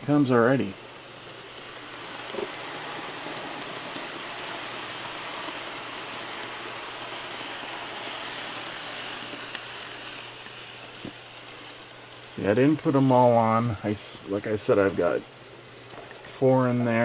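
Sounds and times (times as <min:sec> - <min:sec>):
model train whirring: 0:00.0 - 0:17.0.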